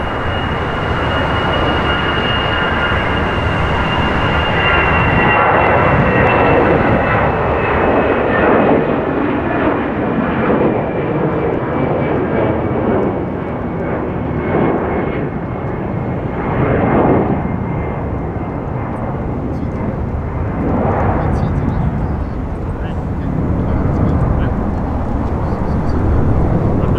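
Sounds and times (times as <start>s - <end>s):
high jet whine: 0.0s - 26.9s
jet engines at takeoff: 0.0s - 26.9s.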